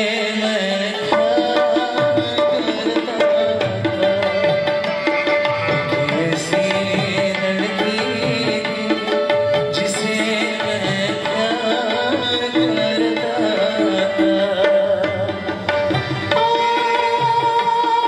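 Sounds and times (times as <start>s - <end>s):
tabla playing rhythm: 0.0s - 18.0s.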